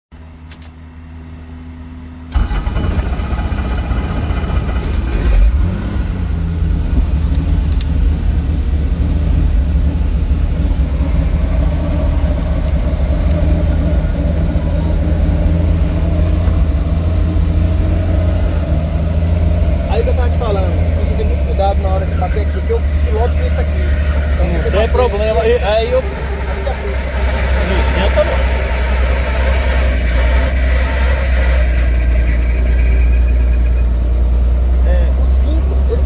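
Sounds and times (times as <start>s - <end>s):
helicopter engine starting: 2.3s - 6.5s, 10.0s - 36.0s.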